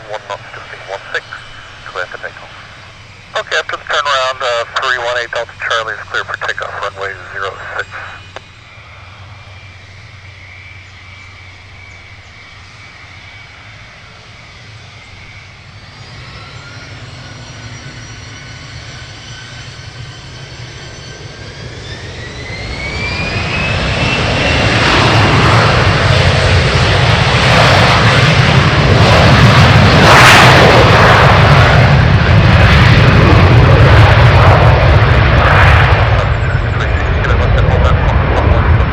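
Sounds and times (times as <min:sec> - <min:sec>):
jet engines spooling up: 0:00.0 - 0:38.9.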